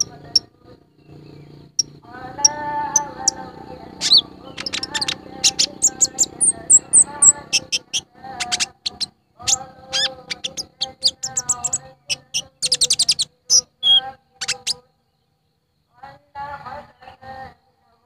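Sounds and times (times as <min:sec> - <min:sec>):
sunbird calling: 0:00.0 - 0:15.8.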